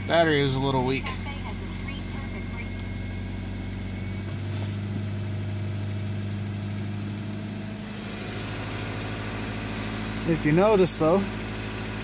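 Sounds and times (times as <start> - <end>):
car engine idling rough: 0.0 - 12.0.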